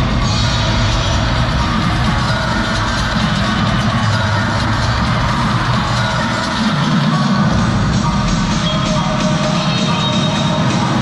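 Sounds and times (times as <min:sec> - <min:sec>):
loud music with strong bass: 0:00.0 - 0:11.0.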